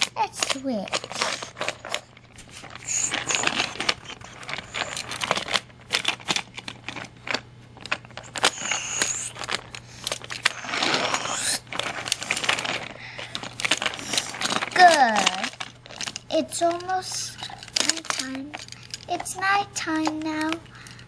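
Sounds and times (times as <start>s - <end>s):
toy pieces clicking and clattering: 0.0s - 21.0s.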